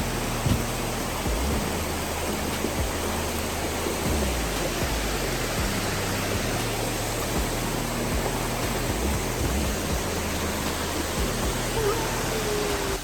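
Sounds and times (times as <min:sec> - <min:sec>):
low rumble: 0:00.0 - 0:13.0
waterfall rushing: 0:00.0 - 0:13.0.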